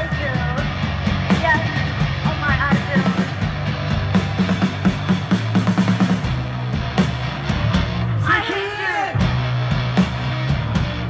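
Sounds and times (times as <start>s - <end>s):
drum kit fast beat: 0.0s - 8.2s, 9.2s - 11.0s
electric guitar: 0.0s - 11.0s.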